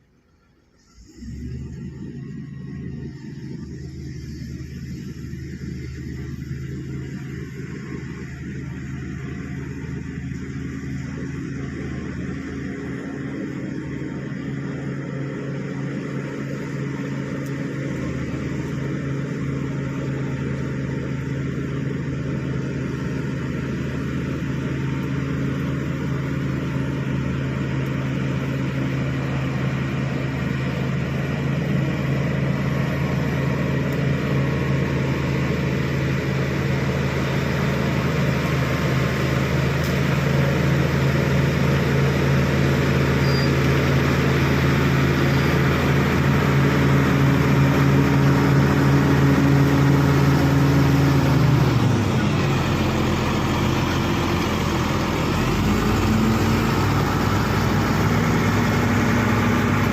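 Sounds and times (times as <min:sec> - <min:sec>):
bulldozer diesel engine drone: 0:00.0 - 0:59.9.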